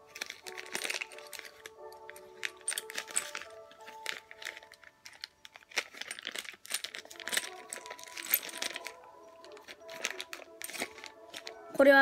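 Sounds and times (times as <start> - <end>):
metal screws rattling in plastic bag: 0.0 - 11.9
plastic bag crinkling: 0.0 - 11.9.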